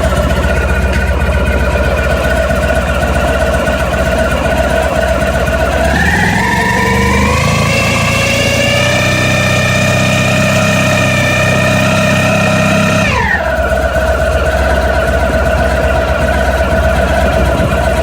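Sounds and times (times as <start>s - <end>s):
engine rattling noise: 0.0s - 18.0s
motorcycle engine revving: 0.0s - 18.0s.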